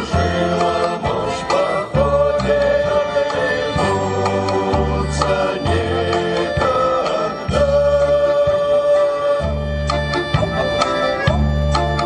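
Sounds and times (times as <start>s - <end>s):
male trio singing in harmony: 0.0s - 10.1s
instrumental backing track: 0.0s - 12.0s.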